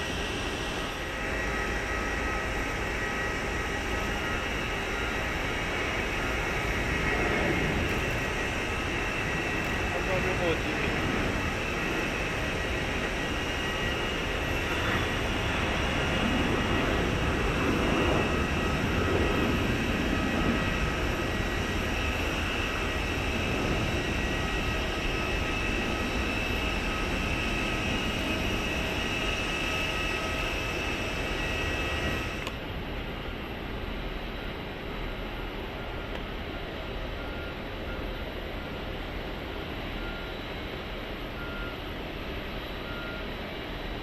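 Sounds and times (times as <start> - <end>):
jet engine whine: 0.0 - 44.0.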